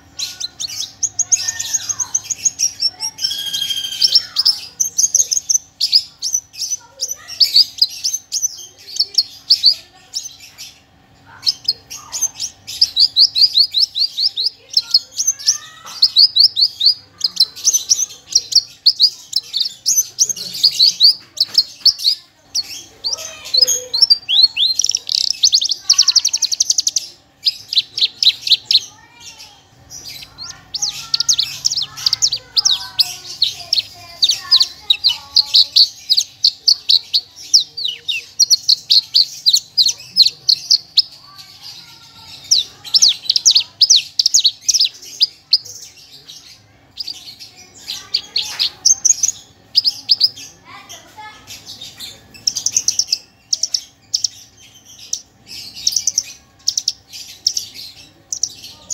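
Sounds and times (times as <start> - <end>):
bird singing: 0.0 - 58.9.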